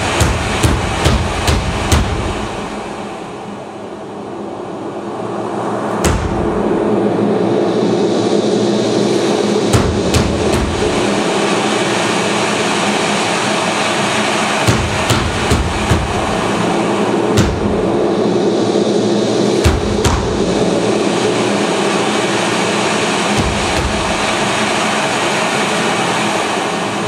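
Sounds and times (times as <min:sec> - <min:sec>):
dense steady noise rush: 0:00.0 - 0:27.0
low hum: 0:00.0 - 0:27.0.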